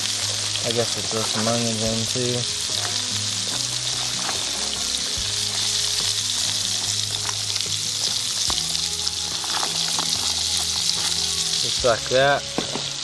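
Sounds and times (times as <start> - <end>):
vegetables sizzling in a skillet: 0.0 - 13.0.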